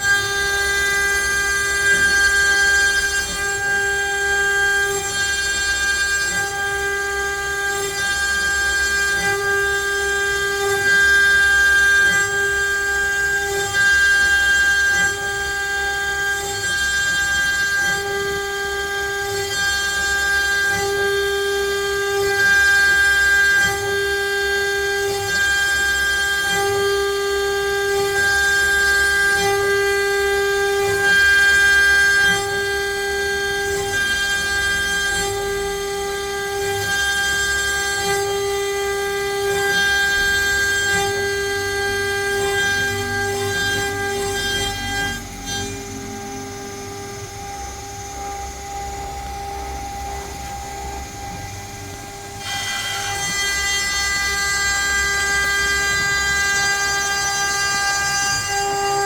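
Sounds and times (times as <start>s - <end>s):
router spindle whining: 0.0s - 59.0s.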